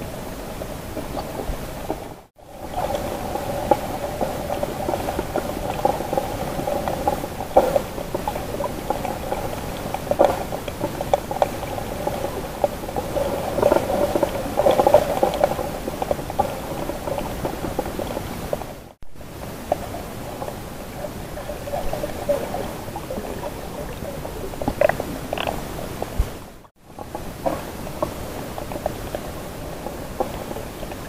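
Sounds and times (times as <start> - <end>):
muffled underwater water rush: 0.0 - 31.0
underwater crackles and clicks: 0.0 - 31.0.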